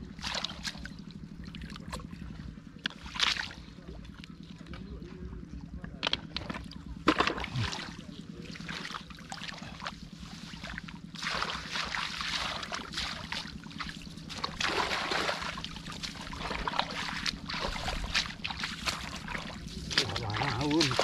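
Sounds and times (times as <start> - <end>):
motor running: 0.0 - 21.0
water splashing and sloshing: 0.0 - 21.0.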